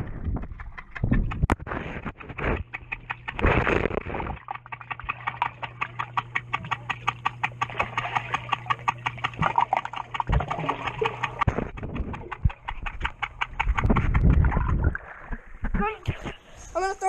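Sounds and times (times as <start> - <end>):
rapid underwater clicking: 0.0 - 16.4
steady low hum: 0.0 - 17.0.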